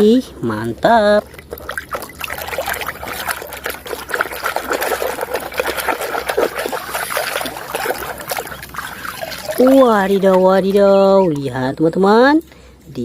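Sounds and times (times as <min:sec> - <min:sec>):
water trickling and splashing: 0:00.0 - 0:11.6.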